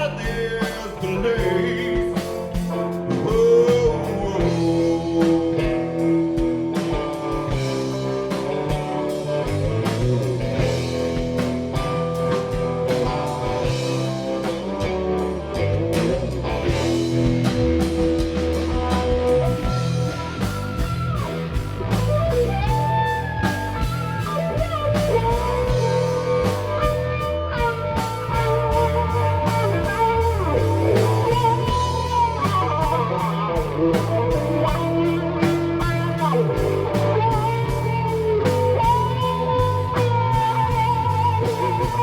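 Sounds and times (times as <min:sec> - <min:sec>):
bending electric guitar lead notes: 0:00.0 - 0:42.0
blues-rock band playing: 0:00.0 - 0:42.0.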